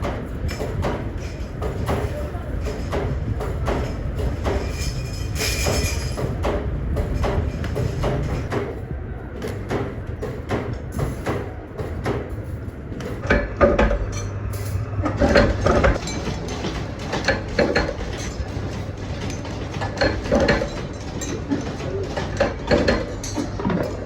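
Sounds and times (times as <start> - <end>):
hard parts clattering and knocking: 0.0 - 24.0.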